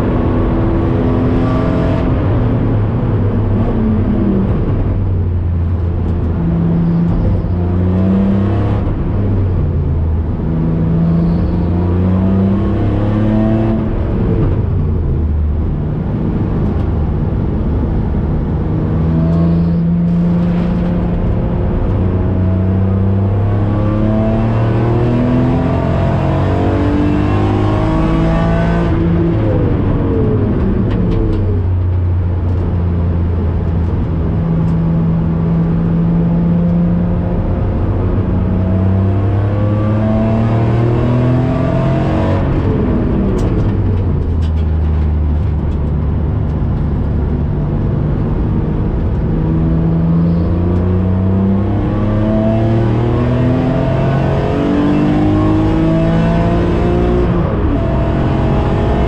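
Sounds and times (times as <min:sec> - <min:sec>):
car engine revving from inside cabin: 0:05.7 - 0:31.9, 0:33.2 - 0:59.0.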